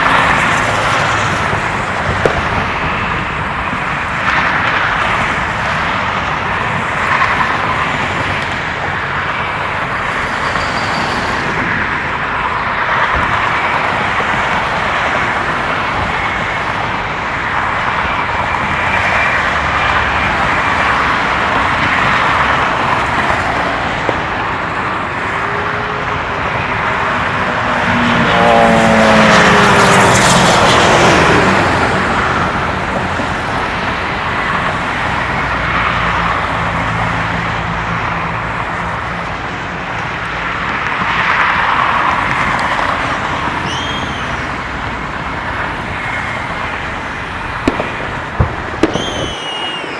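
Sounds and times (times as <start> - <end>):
freeway traffic noise: 0.0 - 49.9
loud vehicle passing: 0.0 - 49.9.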